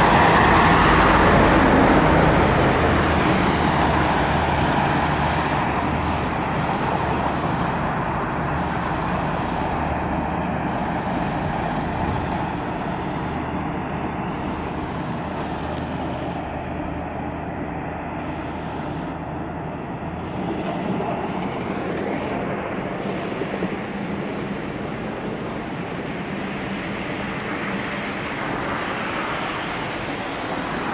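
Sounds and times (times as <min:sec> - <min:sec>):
vehicles passing: 0:00.0 - 0:30.9.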